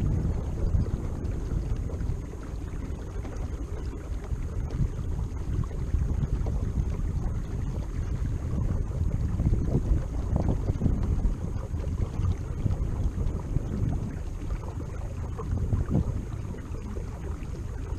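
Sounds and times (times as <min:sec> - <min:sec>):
water under a kayak: 0:00.0 - 0:17.9
wind buffeting microphone: 0:00.0 - 0:17.9.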